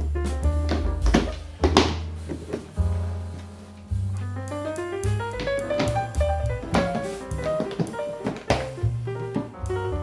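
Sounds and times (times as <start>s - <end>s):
bass line: 0.0s - 7.7s, 8.6s - 10.0s
drum kit: 0.0s - 10.0s
keyboard melody: 0.0s - 10.0s.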